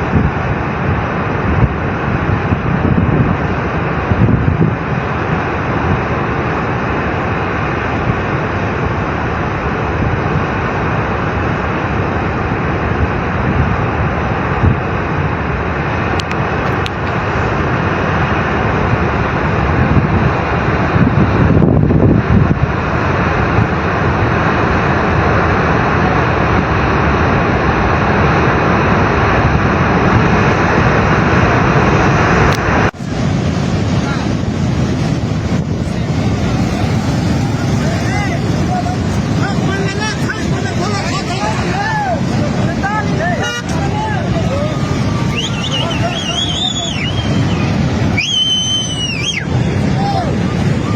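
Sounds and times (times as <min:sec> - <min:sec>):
floodwater roaring torrent: 0:00.0 - 0:50.9.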